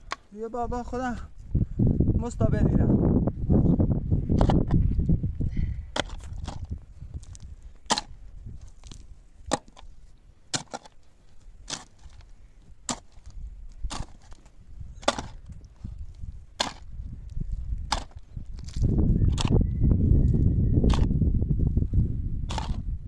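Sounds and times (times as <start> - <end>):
shovel digging stony earth: 0.0 - 1.4, 3.6 - 23.0.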